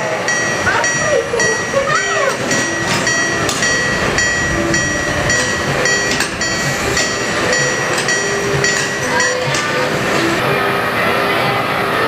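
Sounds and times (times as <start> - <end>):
crossing warning bell ringing: 0.0 - 12.0.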